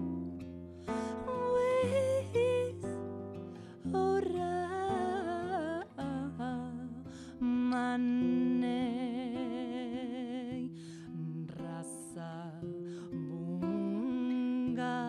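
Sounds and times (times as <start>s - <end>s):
classical guitar plucking: 0.0s - 15.0s
woman singing with vibrato: 0.9s - 3.0s, 3.8s - 15.0s.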